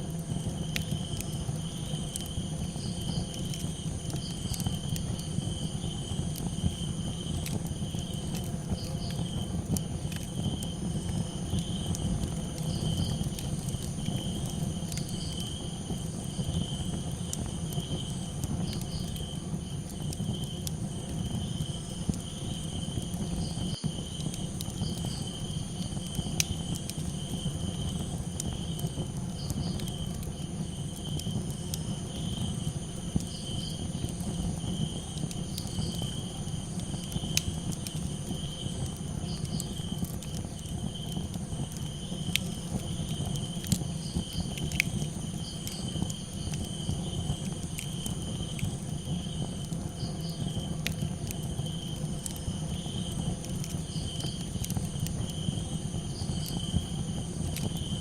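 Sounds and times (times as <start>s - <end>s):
campfire crackling: 0.0s - 58.0s
crickets chirping: 0.0s - 58.0s.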